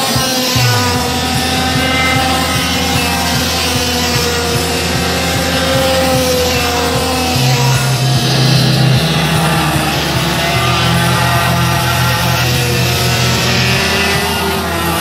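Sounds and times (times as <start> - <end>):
kart engines whining: 0.0 - 15.0
rock music: 0.0 - 15.0.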